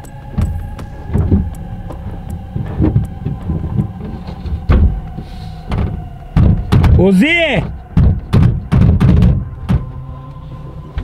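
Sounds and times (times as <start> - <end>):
steady droning tones: 0.0 - 11.0.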